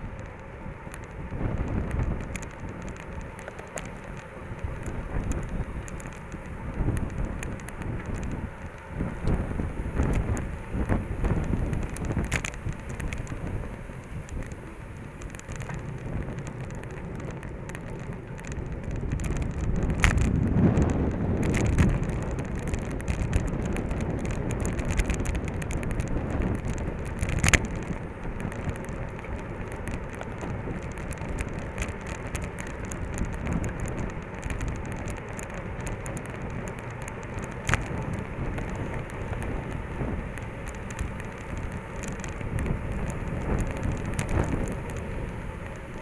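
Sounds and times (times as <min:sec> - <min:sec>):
bike clicks and rattles: 0:00.0 - 0:46.0
wind and tyre noise: 0:00.0 - 0:46.0.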